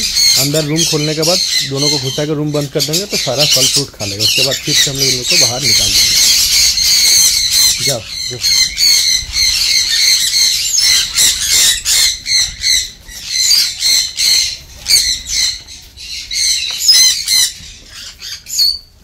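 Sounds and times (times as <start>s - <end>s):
birds squawking and chirping: 0.0s - 19.0s.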